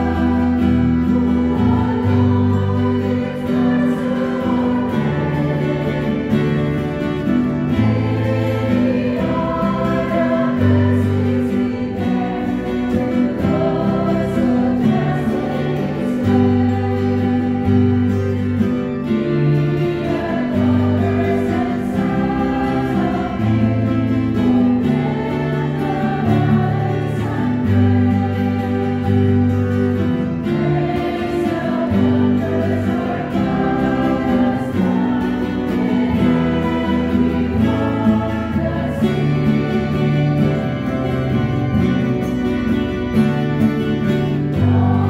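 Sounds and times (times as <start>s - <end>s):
choir singing a hymn: 0.0s - 45.0s
strummed acoustic guitars: 0.0s - 45.0s.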